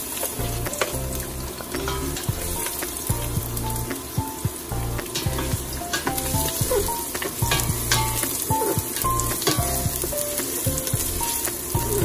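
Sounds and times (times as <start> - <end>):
garlic and onion sizzling in oil: 0.0 - 12.0.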